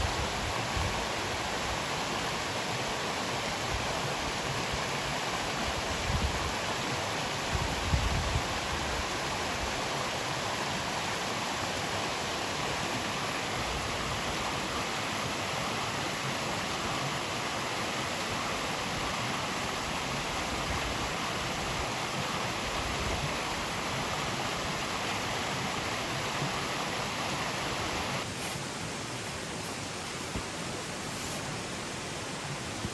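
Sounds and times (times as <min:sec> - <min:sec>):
mountain stream rushing: 0:00.0 - 0:32.9.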